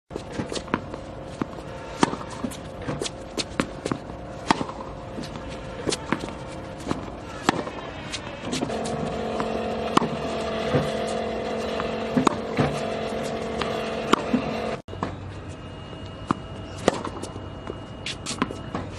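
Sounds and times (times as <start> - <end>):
steady hum: 0.1 - 18.9
tennis balls struck and bouncing: 0.2 - 15.2, 16.2 - 18.9.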